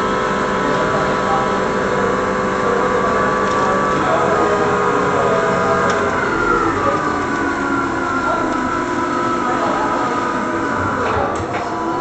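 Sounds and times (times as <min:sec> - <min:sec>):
lathe spindle whine: 0:00.0 - 0:12.0.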